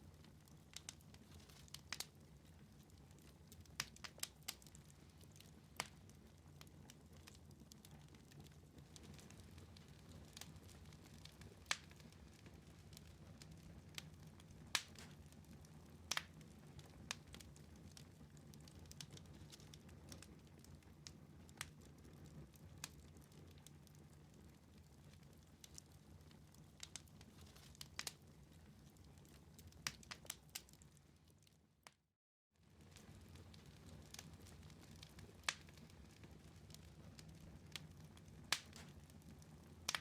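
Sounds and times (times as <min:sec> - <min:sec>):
low rumble of flames: 0:00.0 - 0:31.9, 0:32.6 - 0:40.0
wood fire crackling and popping: 0:00.0 - 0:32.0, 0:32.6 - 0:40.0.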